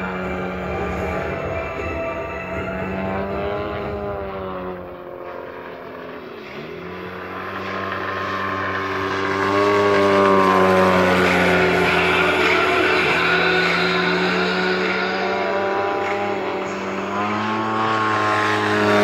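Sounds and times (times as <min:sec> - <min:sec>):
model airplane engine and propeller: 0:00.0 - 0:19.0.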